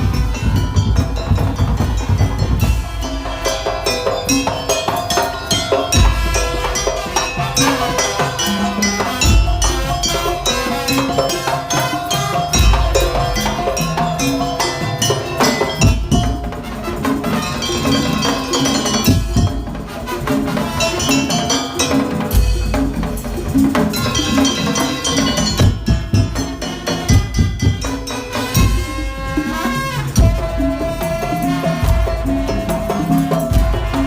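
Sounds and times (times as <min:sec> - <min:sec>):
wooden slit drums and drums: 0:00.0 - 0:34.0.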